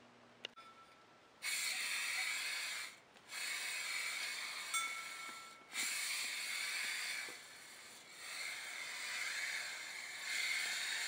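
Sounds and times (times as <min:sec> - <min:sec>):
spray paint can hissing: 0:01.4 - 0:11.0.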